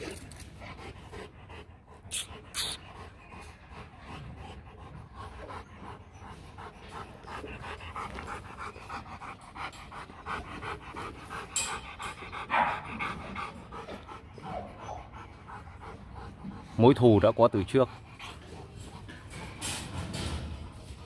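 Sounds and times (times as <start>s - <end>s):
dog panting rapidly: 0.0s - 21.0s.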